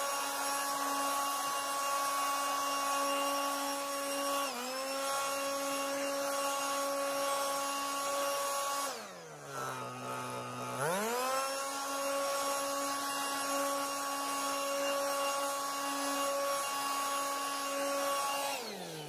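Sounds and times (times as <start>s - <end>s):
leaf blower running: 0.0s - 19.0s.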